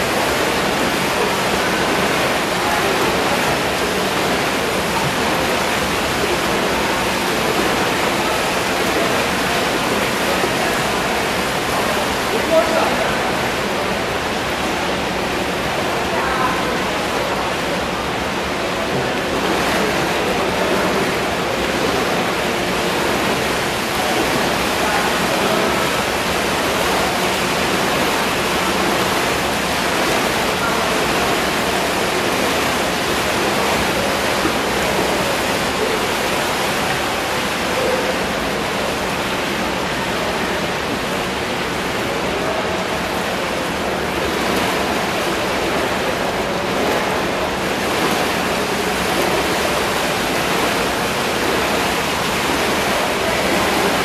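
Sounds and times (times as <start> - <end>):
paddles splashing water: 0.0 - 54.0.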